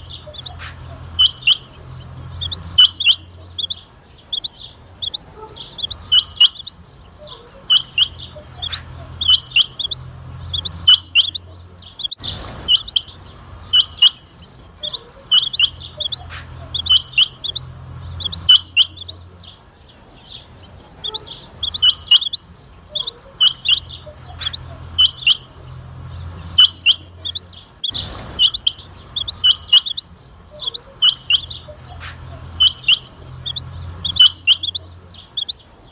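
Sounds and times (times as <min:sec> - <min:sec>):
quail calling: 0:00.0 - 0:35.9.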